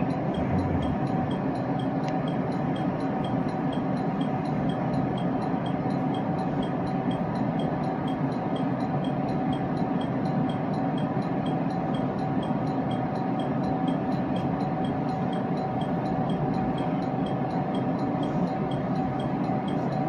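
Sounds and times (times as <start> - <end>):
constant tone: 0.0 - 20.0
electric train interior drone: 0.0 - 20.0
faint regular ticking: 0.0 - 20.0.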